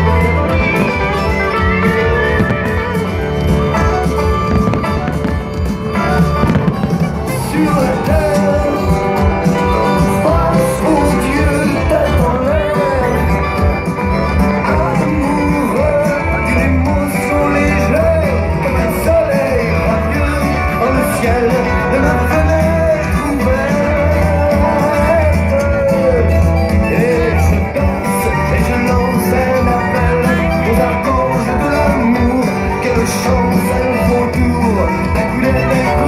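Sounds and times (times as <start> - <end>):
song with pulsing bass beat: 0.0 - 36.0.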